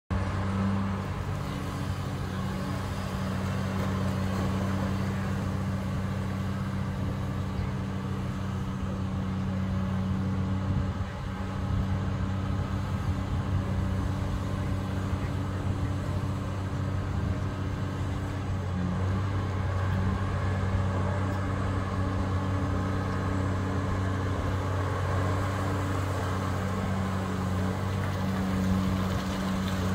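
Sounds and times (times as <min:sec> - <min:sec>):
heavy diesel engine droning: 0:00.1 - 0:29.9.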